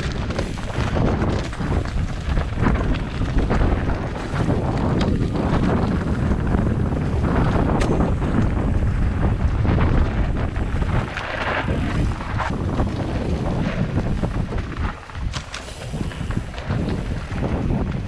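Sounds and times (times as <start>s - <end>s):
bike clattering over rocky trail: 0.0s - 18.0s
wind buffeting microphone: 0.0s - 18.0s.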